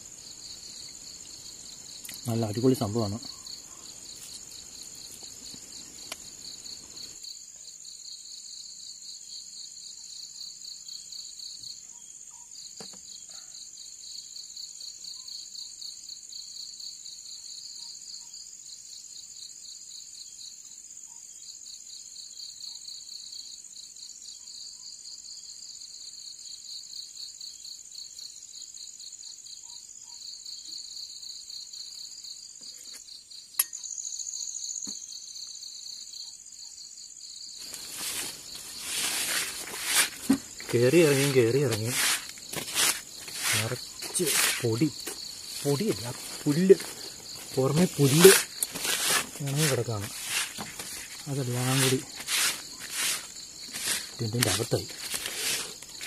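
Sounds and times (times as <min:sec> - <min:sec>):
high continuous insect trill: 0:00.0 - 0:56.0
pulsing insect chirp: 0:00.0 - 0:56.0.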